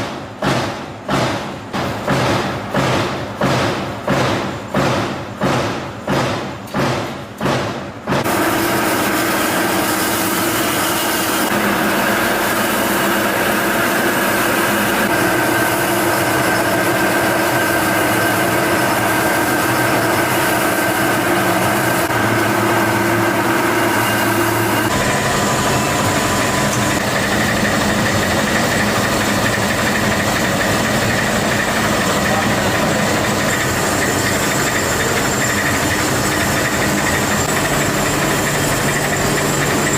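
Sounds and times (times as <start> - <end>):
workshop machinery humming: 0.0 - 39.9.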